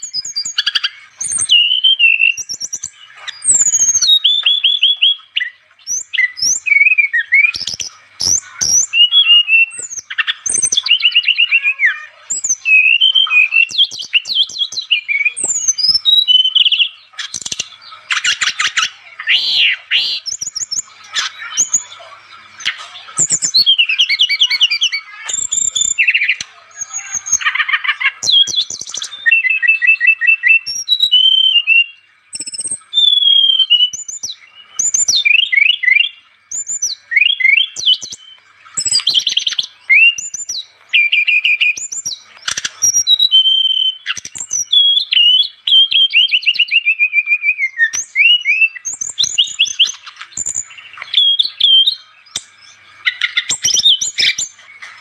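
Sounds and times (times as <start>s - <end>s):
flycatcher singing: 0.0s - 55.0s.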